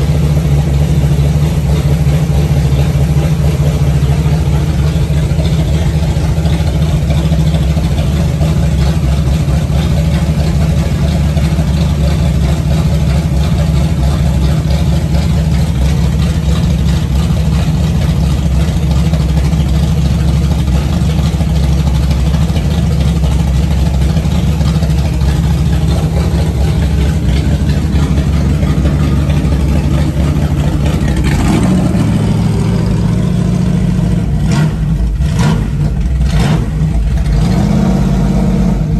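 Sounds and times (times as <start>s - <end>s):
v eight engine running: 0.0s - 38.9s.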